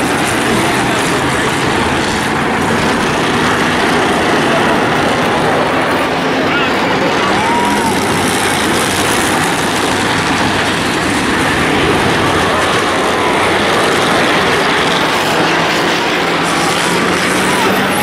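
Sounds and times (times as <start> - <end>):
race car engines din: 0.0 - 18.0.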